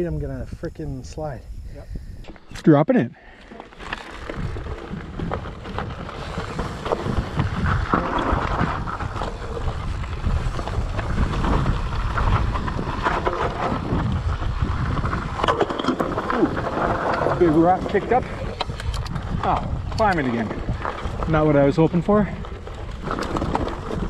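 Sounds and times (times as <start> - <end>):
wind noise on microphone: 0.0 - 2.6, 3.8 - 24.0
stones clicking and bike rattling: 3.3 - 24.0
tyres crunching over gravel: 3.4 - 24.0.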